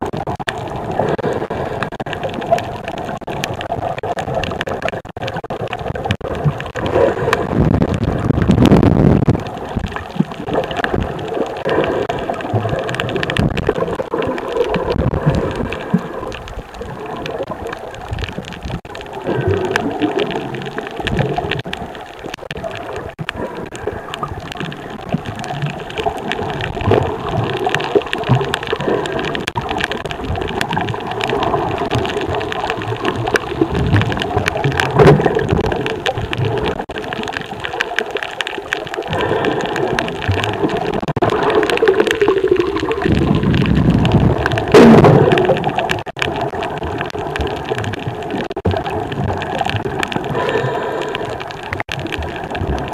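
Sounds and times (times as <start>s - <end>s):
crackle of fine clicks: 0.0s - 52.9s
underwater rumbling and sloshing: 0.0s - 52.9s.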